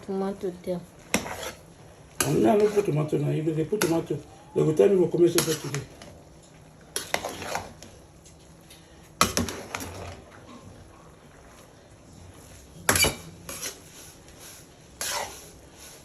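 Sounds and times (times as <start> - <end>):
utensil stirring: 0.7 - 16.0.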